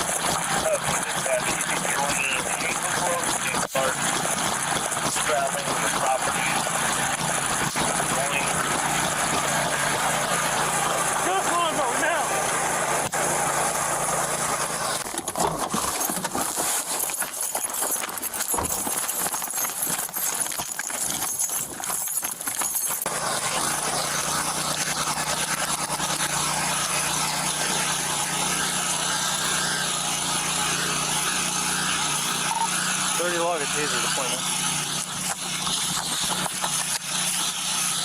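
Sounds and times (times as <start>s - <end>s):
steady engine drone: 0.0s - 38.0s.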